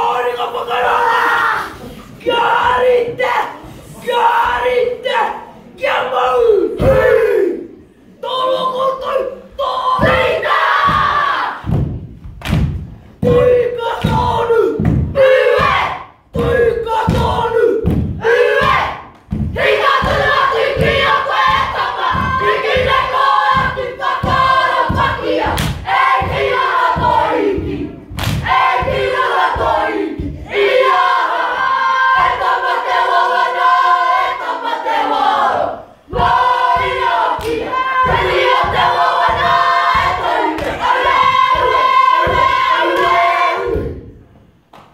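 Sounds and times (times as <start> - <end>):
group chanting and shouting: 0.0 - 44.9.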